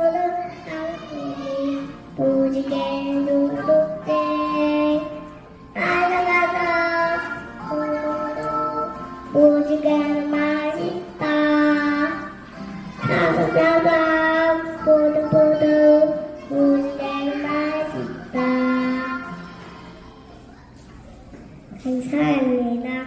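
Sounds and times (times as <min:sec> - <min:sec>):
child singing: 0:00.0 - 0:20.2.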